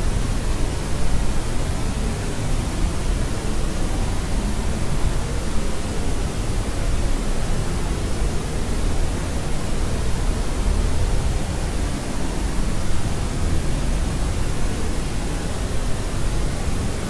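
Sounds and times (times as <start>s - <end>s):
steady white noise hiss: 0.0s - 17.0s.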